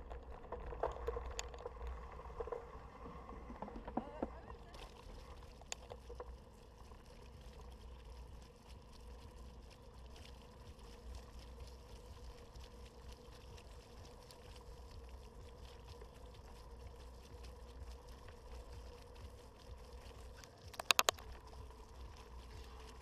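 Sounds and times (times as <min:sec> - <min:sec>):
bike tyre rolling rumble: 0:00.0 - 0:23.0
faint steady hum: 0:00.0 - 0:23.0
small ticks and rattles: 0:00.0 - 0:23.0
water wash: 0:00.0 - 0:23.0.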